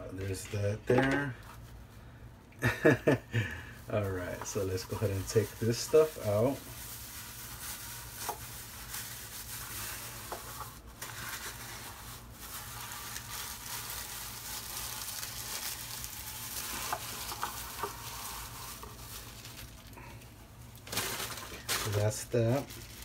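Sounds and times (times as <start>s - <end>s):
shredded paper rustling: 3.8s - 23.0s.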